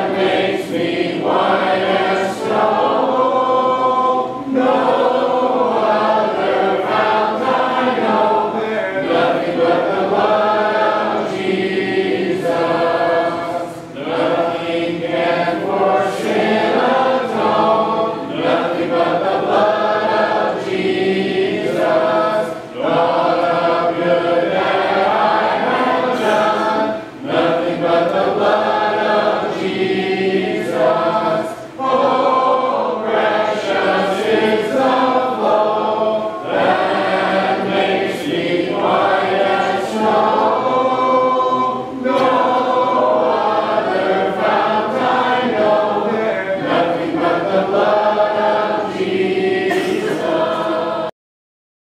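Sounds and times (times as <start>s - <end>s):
congregation singing a hymn: 0.0s - 51.1s.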